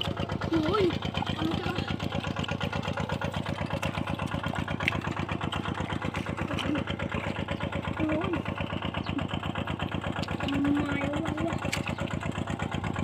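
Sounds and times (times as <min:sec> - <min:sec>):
water pump engine running: 0:00.0 - 0:13.0.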